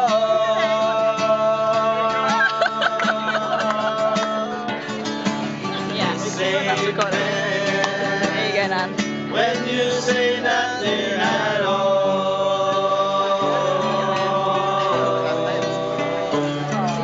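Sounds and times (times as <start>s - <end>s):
men singing together: 0.0s - 17.0s
strummed acoustic guitar: 0.0s - 17.0s.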